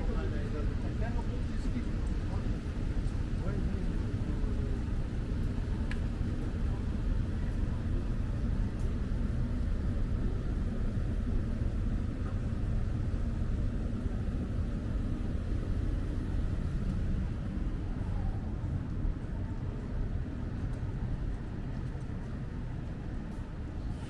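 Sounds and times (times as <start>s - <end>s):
faint outdoor background noise: 0.0s - 24.0s.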